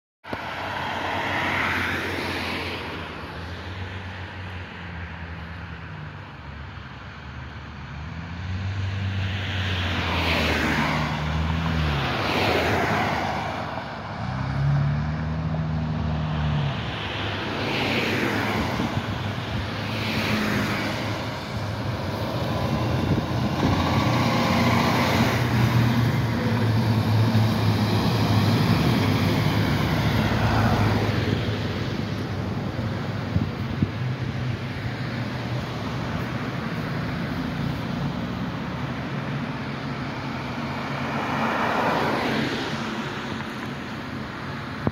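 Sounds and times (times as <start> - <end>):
cars passing: 0.2 - 44.9
fire engines droning: 0.3 - 44.9.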